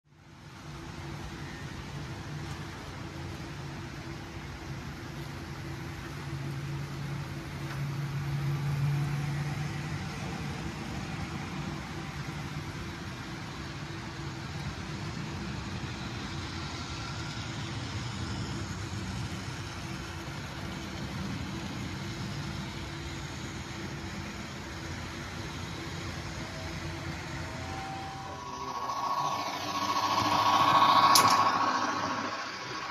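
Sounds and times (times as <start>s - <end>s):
model train rumbling: 0.2s - 32.9s.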